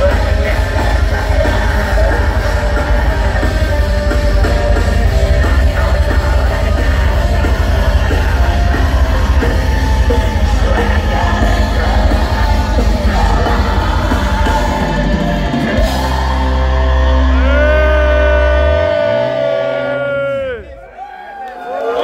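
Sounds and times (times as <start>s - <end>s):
distorted guitars: 0.0s - 20.7s
drums: 0.0s - 20.8s
harsh yelled vocals: 0.0s - 22.0s.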